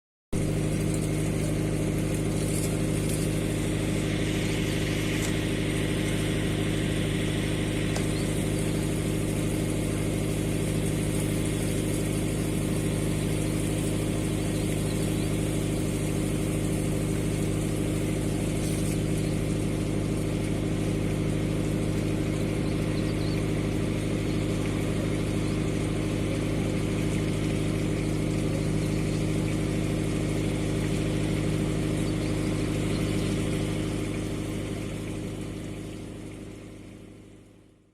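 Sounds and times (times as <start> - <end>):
low mechanical hum: 0.4 - 37.9.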